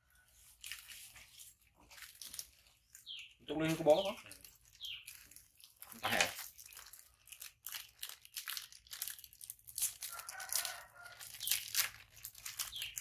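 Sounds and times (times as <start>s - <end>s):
plastic wrapper crinkling and tearing: 0.1s - 13.0s.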